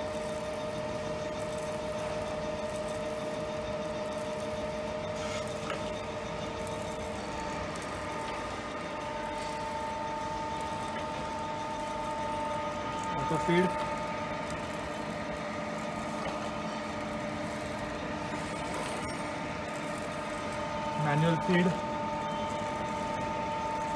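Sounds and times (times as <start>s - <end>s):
grinder machine humming: 0.0s - 23.9s
higher machine tone: 0.0s - 23.9s.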